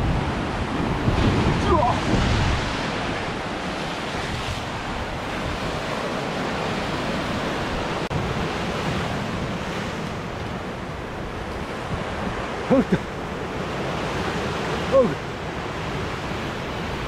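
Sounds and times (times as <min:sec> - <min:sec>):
ocean surf breaking over rocks: 0:00.0 - 0:17.0.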